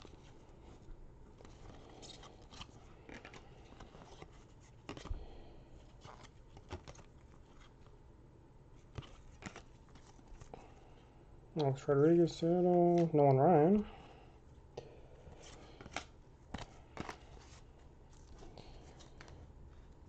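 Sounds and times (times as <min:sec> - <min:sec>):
cards flipping and rustling: 0:00.0 - 0:08.0, 0:08.8 - 0:11.0, 0:11.6 - 0:14.0, 0:15.2 - 0:20.0.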